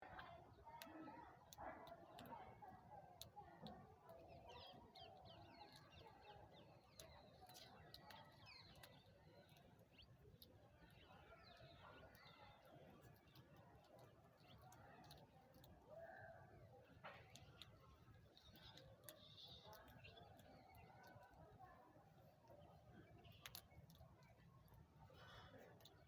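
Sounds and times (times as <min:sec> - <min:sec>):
murmur of distant voices: 0:00.0 - 0:26.0
small birds chirping: 0:00.0 - 0:26.0.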